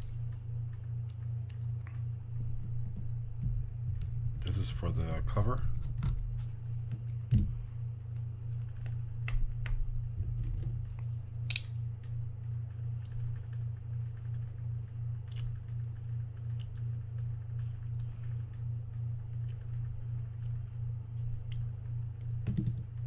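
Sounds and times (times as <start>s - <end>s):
pulsing low hum: 0.0s - 23.0s.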